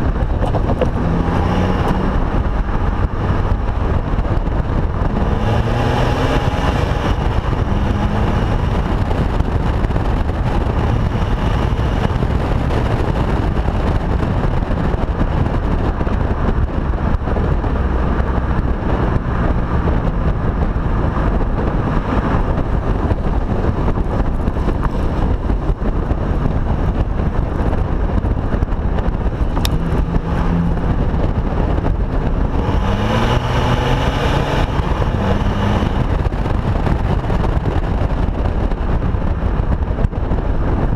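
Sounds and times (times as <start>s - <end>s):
diesel car exhaust: 0.0s - 40.9s
road and wind noise: 0.0s - 40.9s.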